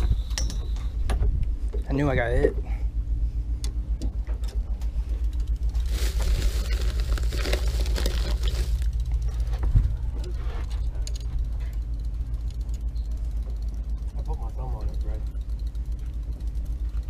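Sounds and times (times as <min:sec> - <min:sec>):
boat engine idling: 0:00.0 - 0:17.0.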